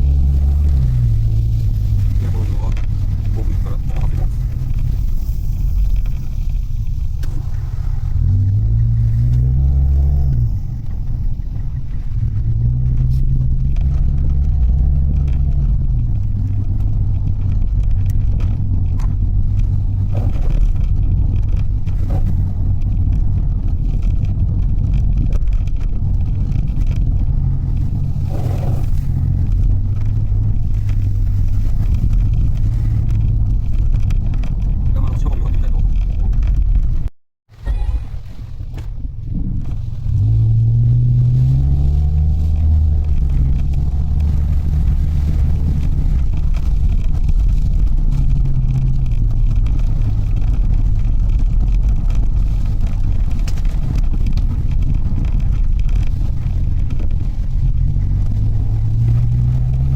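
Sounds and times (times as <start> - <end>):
van engine and road rumble: 0.0 - 59.9.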